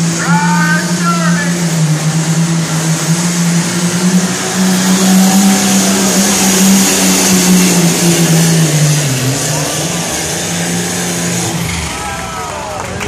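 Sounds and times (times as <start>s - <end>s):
diesel engine running loud: 0.0s - 13.0s.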